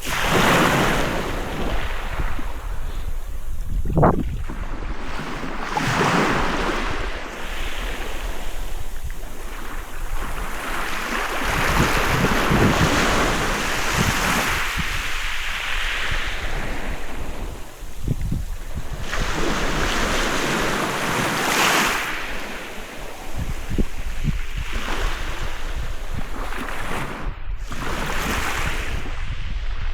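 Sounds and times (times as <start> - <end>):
waves breaking on a beach: 0.0 - 29.9
wind buffeting the microphone: 0.0 - 29.9.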